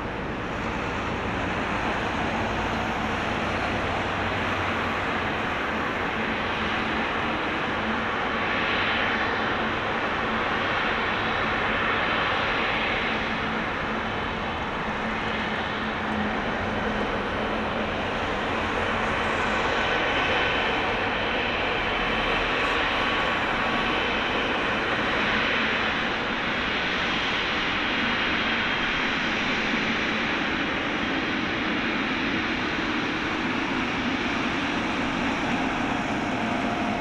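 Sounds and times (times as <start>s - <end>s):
jet engine rumble: 0.0s - 37.0s.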